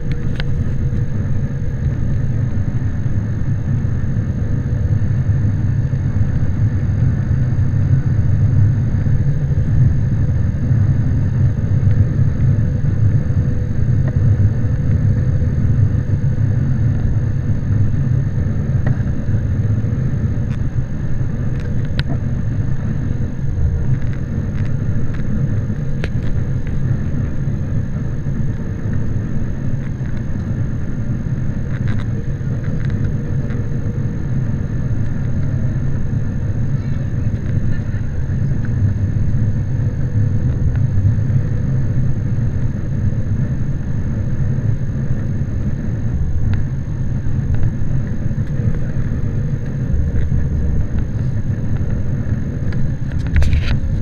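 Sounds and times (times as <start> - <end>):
airliner cabin rumble: 0.0 - 54.0
faint steady hum: 0.0 - 54.0.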